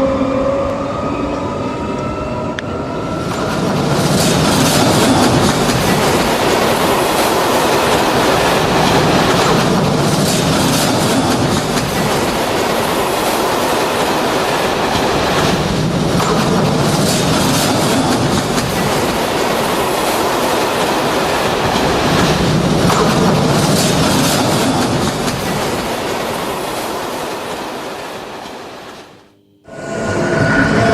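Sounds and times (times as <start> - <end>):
train wheels rumbling on rails: 0.0 - 29.2.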